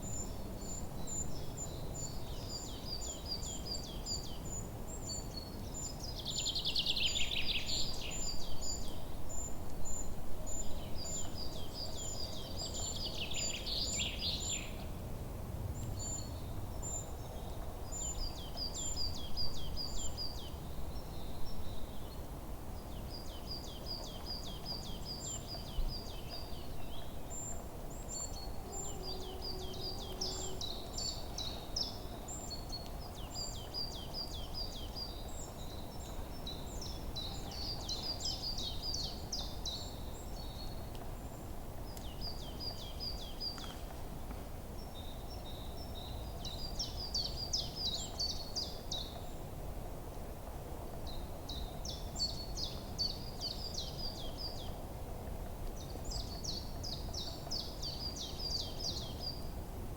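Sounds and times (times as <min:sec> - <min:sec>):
songbirds chirping and trilling: 0:00.0 - 0:15.0, 0:15.7 - 0:49.6, 0:50.2 - 0:59.6
low outdoor background hum: 0:00.0 - 0:59.9.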